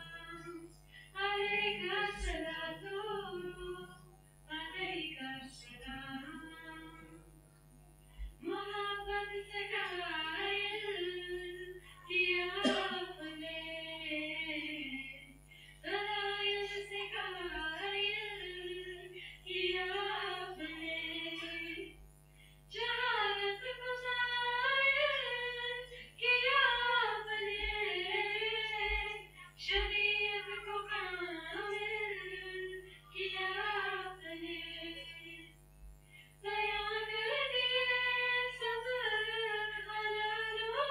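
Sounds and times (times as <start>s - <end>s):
women singing unaccompanied: 0.0s - 7.3s, 8.2s - 22.0s, 22.7s - 35.6s, 36.4s - 40.9s.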